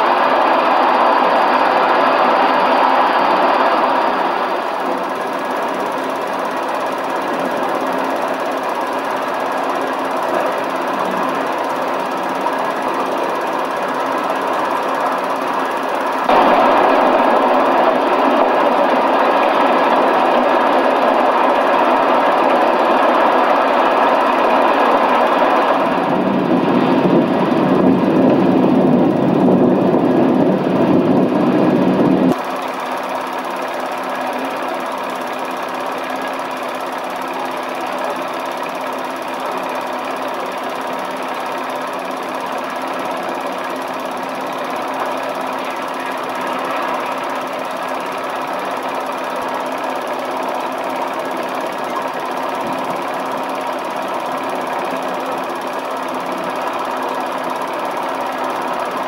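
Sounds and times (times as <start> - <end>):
film projector whirring and rattling: 0.0 - 59.0.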